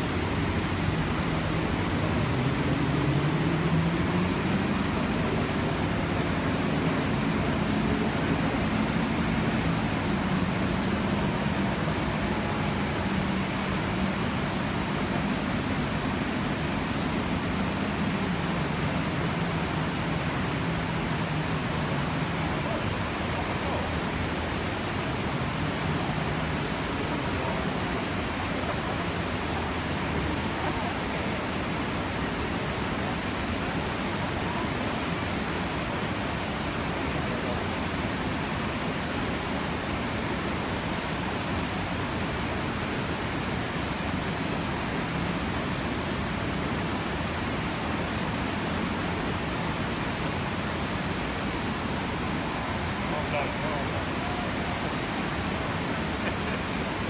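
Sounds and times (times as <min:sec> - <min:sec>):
river rapids: 0:00.0 - 0:57.0
waterfall rushing: 0:00.0 - 0:57.0.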